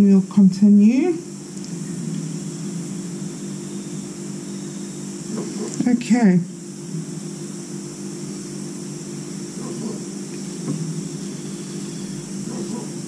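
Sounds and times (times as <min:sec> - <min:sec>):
fan humming and hissing: 0:00.0 - 0:13.0.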